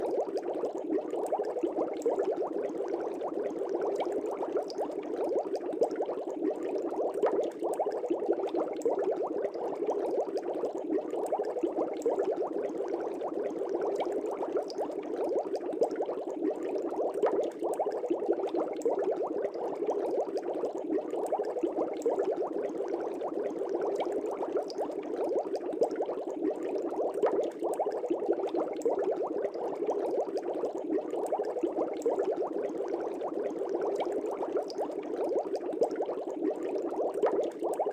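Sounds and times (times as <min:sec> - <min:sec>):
air bubbles in fish tank: 0:00.0 - 0:37.9.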